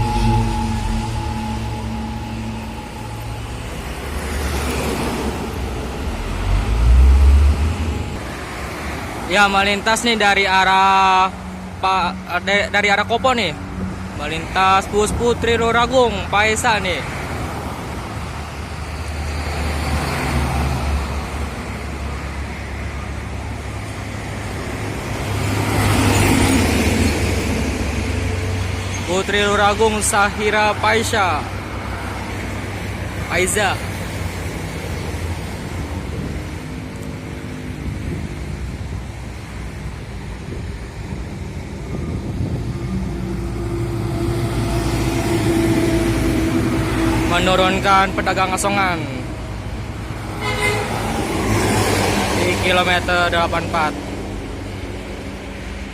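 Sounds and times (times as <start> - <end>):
bus diesel engine rumbling: 0.0 - 55.9
highway traffic rushing: 0.0 - 55.9.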